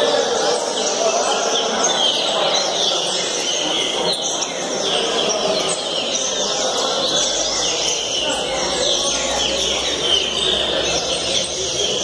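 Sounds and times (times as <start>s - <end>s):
birds chirping and whistling: 0.0s - 12.0s
murmur of people talking: 0.0s - 12.0s.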